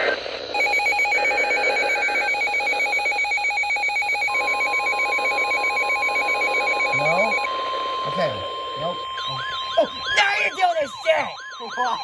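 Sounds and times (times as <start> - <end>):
steady warning tone: 0.5 - 12.0
two-pitch data tones: 0.6 - 12.0
weather radio alarm beeps warbling: 0.6 - 12.0.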